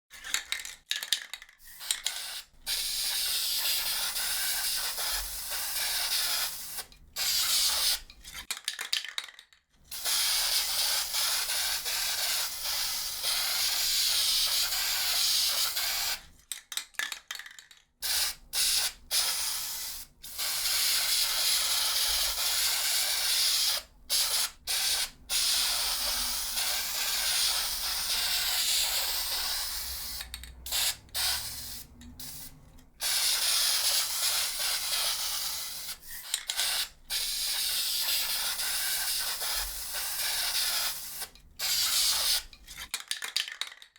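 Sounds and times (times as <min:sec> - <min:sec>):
aerosol spray can spraying: 0:01.6 - 0:08.1, 0:09.9 - 0:16.3, 0:18.0 - 0:42.5.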